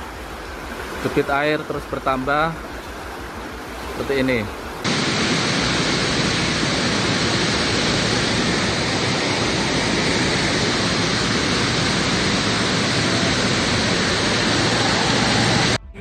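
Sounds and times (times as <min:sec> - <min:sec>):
river water rushing: 0:00.0 - 0:15.8.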